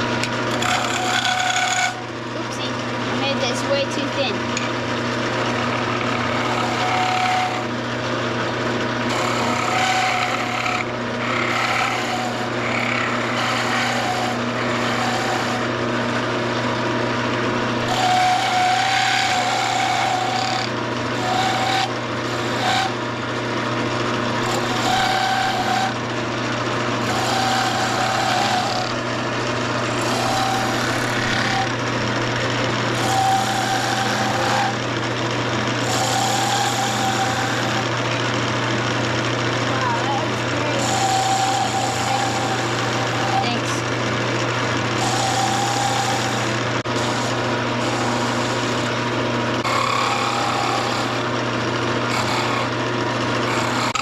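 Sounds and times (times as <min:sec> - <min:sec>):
chisel scraping spinning wood: 0:00.0 - 0:54.0
wood lathe running: 0:00.0 - 0:54.0.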